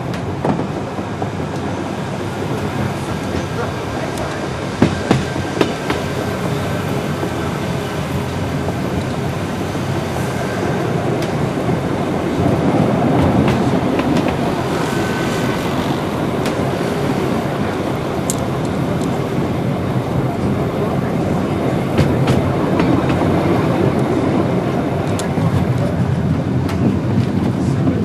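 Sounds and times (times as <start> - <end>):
train rumble and rattle: 0.0 - 28.0.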